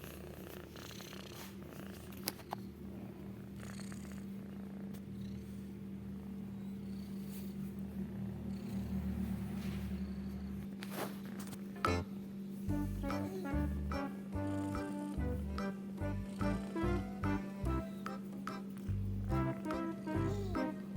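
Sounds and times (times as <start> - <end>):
cat purring: 0.0 - 11.6, 12.5 - 13.8, 14.4 - 20.9.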